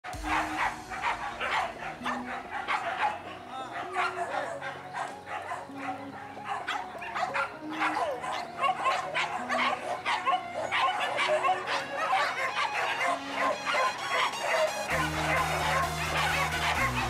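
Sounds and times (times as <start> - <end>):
dogs barking and yelping: 0.0 - 17.0.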